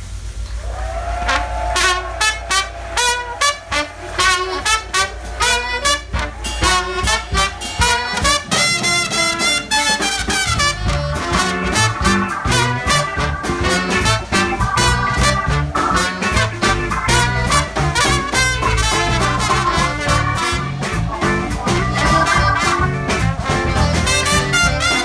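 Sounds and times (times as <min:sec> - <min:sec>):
horn section stabs: 0:00.1 - 0:25.0
jazz band playing: 0:00.9 - 0:25.0.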